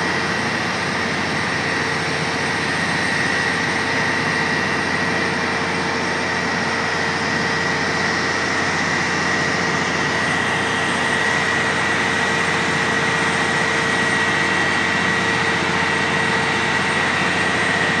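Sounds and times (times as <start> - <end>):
diesel engine running under load: 0.0 - 18.0
high-pitched whine: 0.0 - 18.0.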